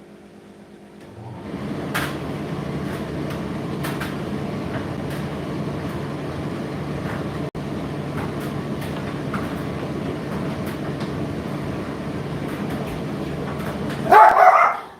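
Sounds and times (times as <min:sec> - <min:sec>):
tumble dryer running: 0:00.0 - 0:14.9
items knocking in dryer drum: 0:01.6 - 0:14.6.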